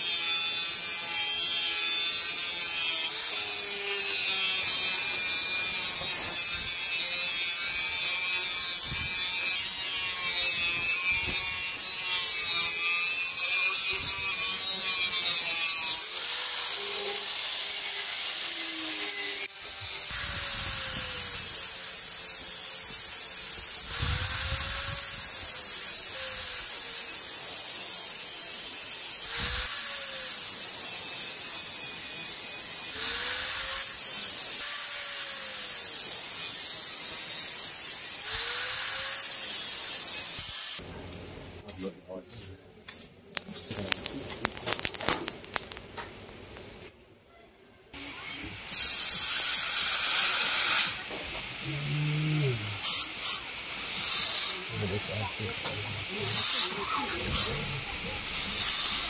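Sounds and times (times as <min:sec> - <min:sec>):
angle grinder grinding steel: 0:00.0 - 0:40.9, 0:48.0 - 0:59.0.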